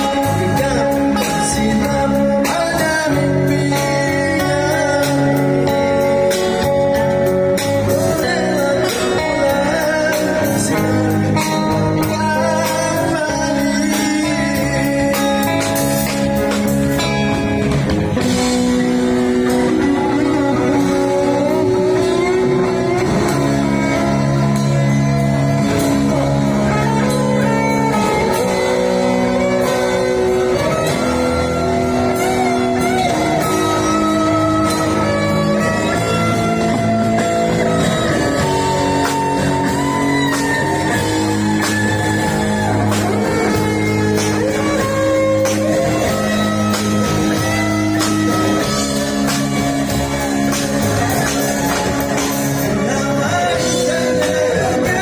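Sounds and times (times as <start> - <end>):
guitar melody: 0.0 - 55.0
live band playing: 0.0 - 55.0.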